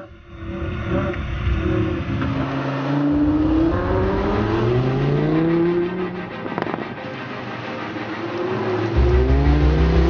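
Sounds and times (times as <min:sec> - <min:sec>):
car engine accelerating hard: 0:00.4 - 0:06.8, 0:08.0 - 0:10.0.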